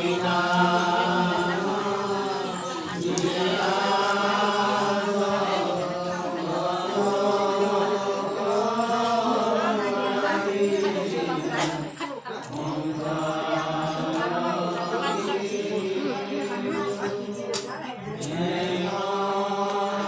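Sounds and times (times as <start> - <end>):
men chanting in a group: 0.0 - 20.0.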